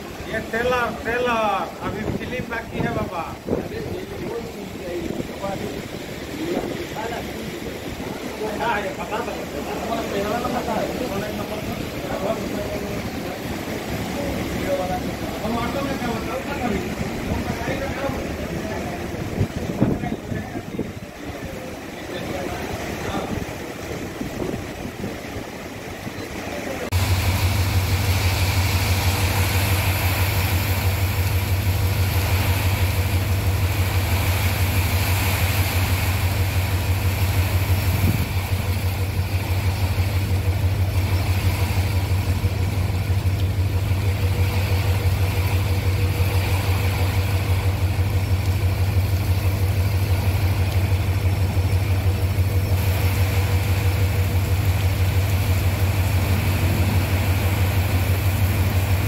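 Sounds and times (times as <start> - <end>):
heavy rain: 0.0 - 59.0
large engine idling: 0.0 - 59.0.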